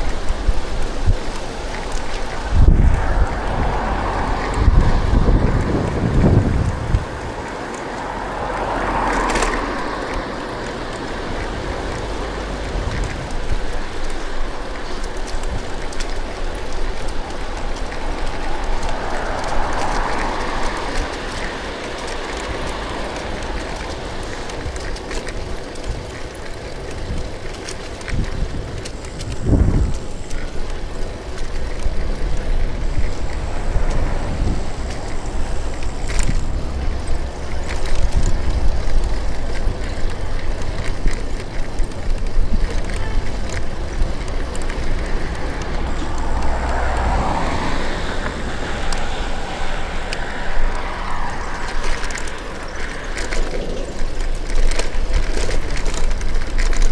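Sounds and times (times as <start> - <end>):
low rumble of bicycle riding: 0.0 - 56.9
street traffic noise: 0.0 - 56.9.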